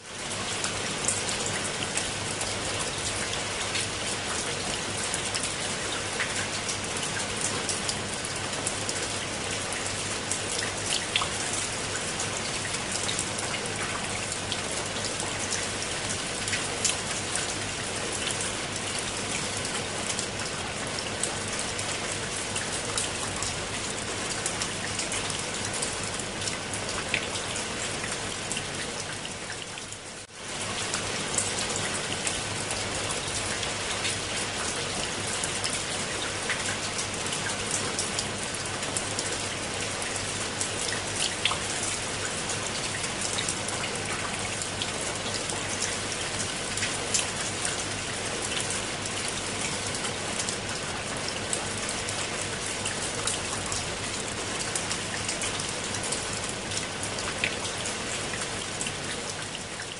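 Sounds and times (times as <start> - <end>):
rain on leaves and stone: 0.0 - 59.9.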